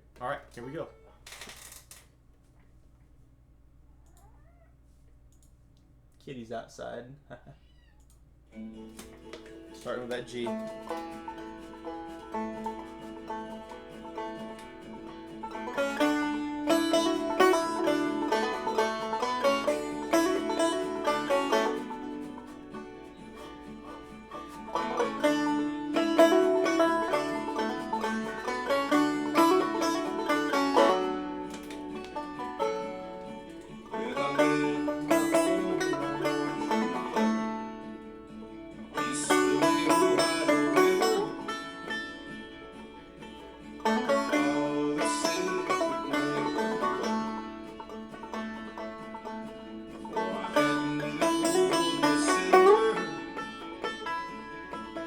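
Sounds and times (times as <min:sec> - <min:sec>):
banjo playing chords: 0:08.5 - 0:55.0.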